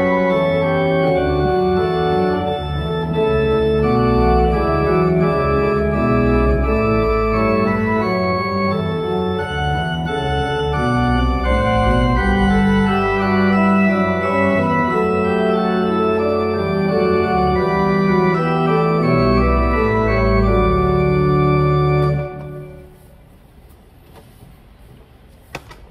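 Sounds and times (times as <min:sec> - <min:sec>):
deep organ pedal bass notes: 0:00.0 - 0:22.9
organ chords: 0:00.0 - 0:23.1.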